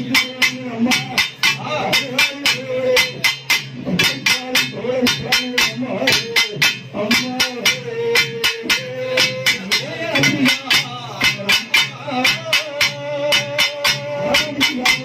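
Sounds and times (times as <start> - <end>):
drum ensemble playing fast beat: 0.0 - 15.0.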